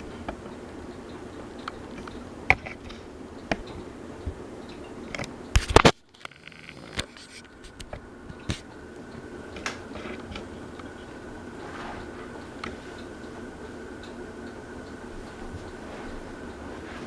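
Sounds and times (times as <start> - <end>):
ceiling fan humming: 0.0 - 17.0
fan clicking: 0.0 - 17.0.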